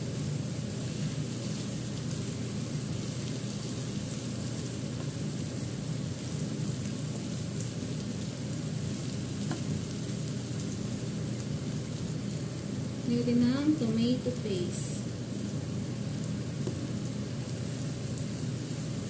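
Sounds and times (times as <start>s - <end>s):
low steady hum: 0.0s - 19.0s
meat and onions sizzling in a pan: 0.0s - 19.0s.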